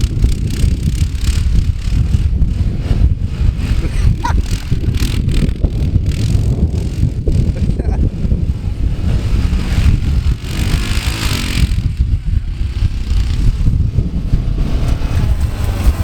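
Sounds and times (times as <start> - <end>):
off-road vehicle engine: 0.0 - 16.0
wind buffeting microphone: 0.0 - 16.0.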